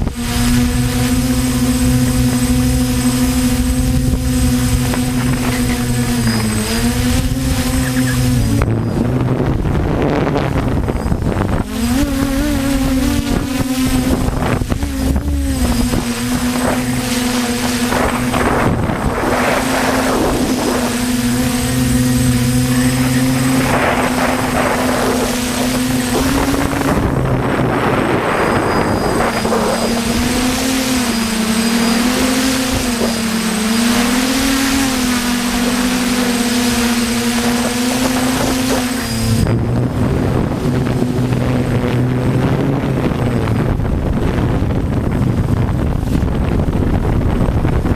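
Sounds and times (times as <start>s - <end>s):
quadcopter motors humming: 0.0s - 47.9s
wind gusts on microphone: 0.0s - 47.9s.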